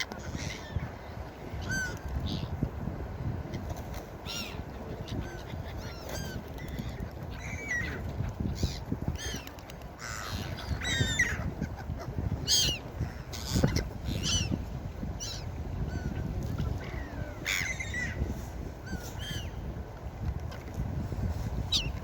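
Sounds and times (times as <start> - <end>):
seagulls calling: 0.0 - 2.5, 4.2 - 19.7, 21.6 - 22.0.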